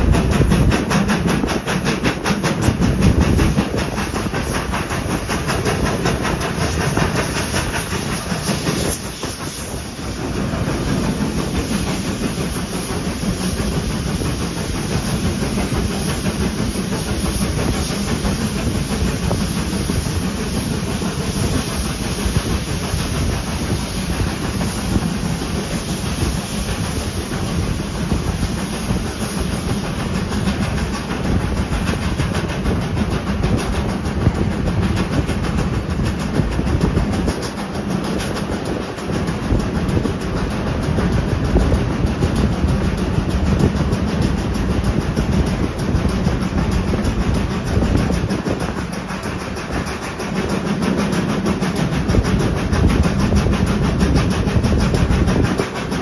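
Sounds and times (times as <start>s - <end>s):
steam locomotive exhaust: 0.0s - 56.0s
train wheels clattering on rails: 0.0s - 56.0s.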